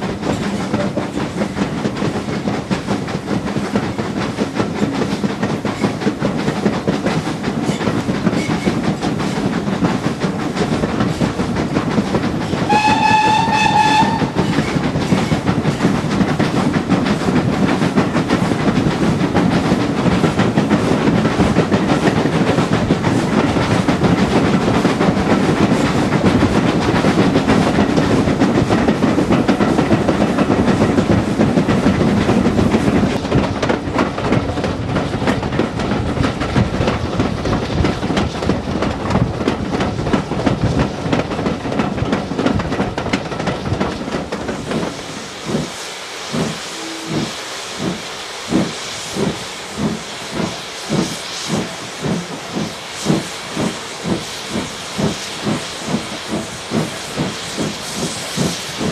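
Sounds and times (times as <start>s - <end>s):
loud hissing steam: 0.0s - 58.9s
steam locomotive exhaust chuffs: 0.0s - 58.9s
train rumble and wheel rattle: 0.0s - 58.9s.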